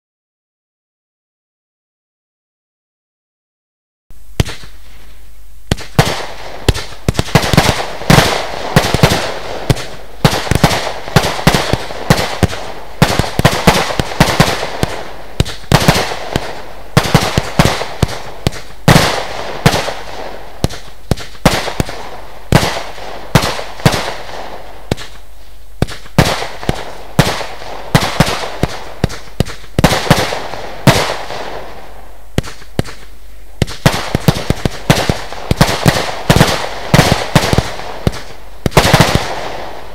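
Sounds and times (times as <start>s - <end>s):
firework cake shots and bursts: 5.7s - 39.9s.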